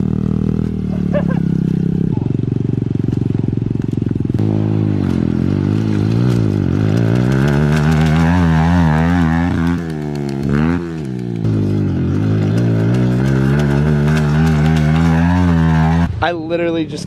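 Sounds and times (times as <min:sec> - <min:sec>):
pit bike engine revving: 0:00.0 - 0:17.0.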